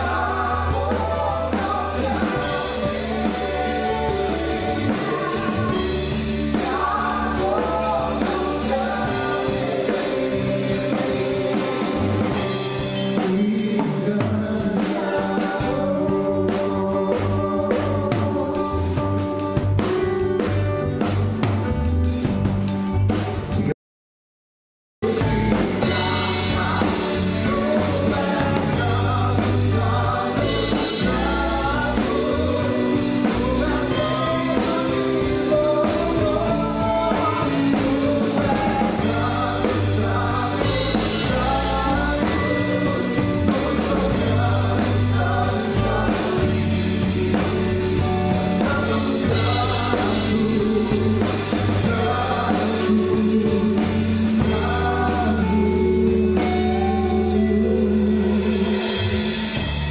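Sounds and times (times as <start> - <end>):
lead vocals singing: 0.0 - 19.6, 25.0 - 59.9
keyboard: 0.0 - 23.7, 25.0 - 59.9
bass guitar: 0.0 - 23.8, 25.0 - 59.9
drum kit: 0.0 - 23.8, 25.0 - 59.9.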